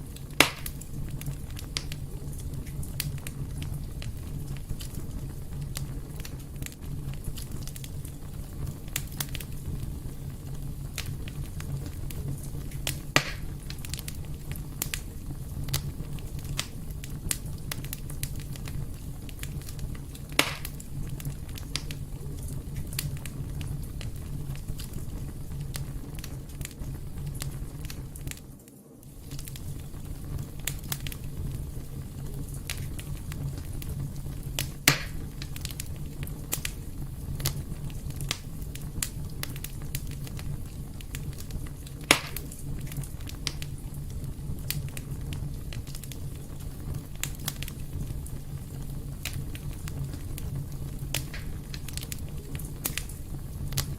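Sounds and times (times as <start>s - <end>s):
fire popping: 0.0s - 53.9s
wood fire crackling: 0.0s - 53.9s.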